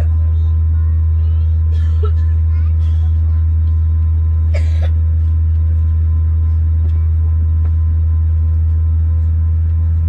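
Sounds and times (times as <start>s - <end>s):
aircraft engines droning: 0.0s - 10.0s
faint whine: 0.0s - 10.0s.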